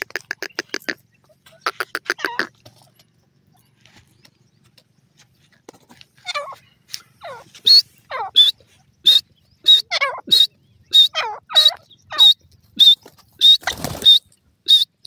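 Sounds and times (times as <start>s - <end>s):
francolins calling: 0.0s - 5.5s, 6.1s - 15.0s.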